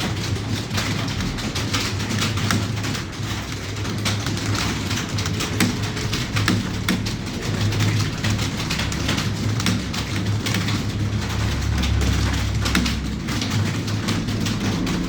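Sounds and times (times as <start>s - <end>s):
keyboard typing clatter: 0.0s - 15.0s.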